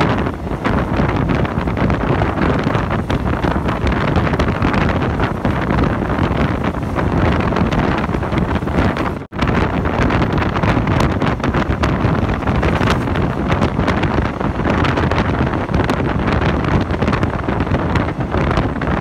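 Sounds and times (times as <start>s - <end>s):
train running: 0.0s - 18.8s
wind buffeting microphone: 0.0s - 19.0s.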